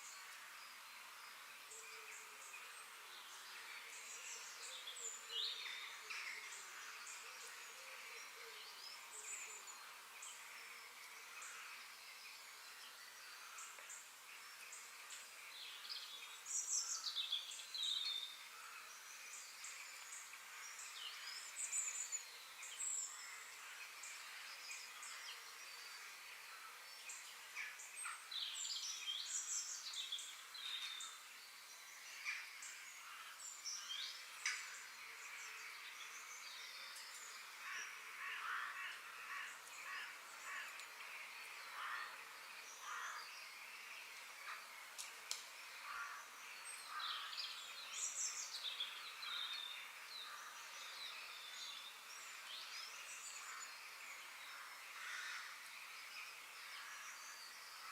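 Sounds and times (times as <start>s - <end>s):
faint outdoor hiss: 0.0s - 57.9s.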